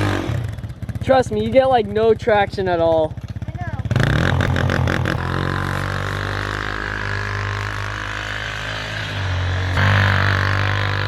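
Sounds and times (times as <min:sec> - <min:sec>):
off-road vehicle engine idling: 0:00.0 - 0:11.0.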